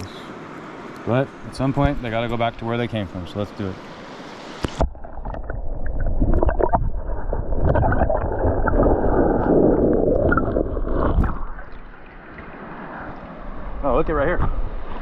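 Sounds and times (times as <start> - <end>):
muffled underwater river current: 1.8 - 15.0.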